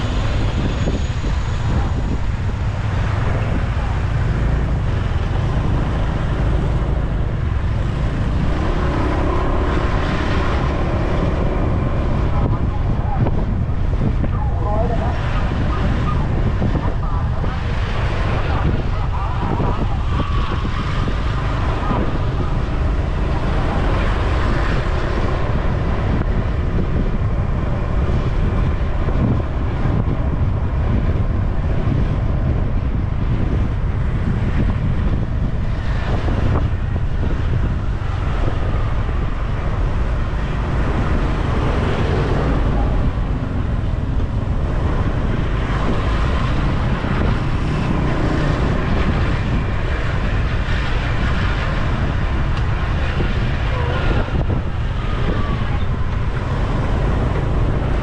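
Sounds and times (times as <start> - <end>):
road traffic noise: 0.0 - 58.0
wind rumble on microphone: 0.0 - 58.0.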